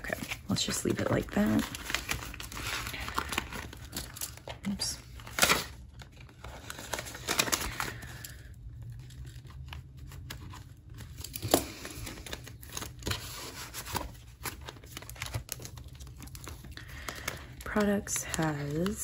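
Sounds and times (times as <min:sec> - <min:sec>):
paper money rustling: 0:00.0 - 0:19.0.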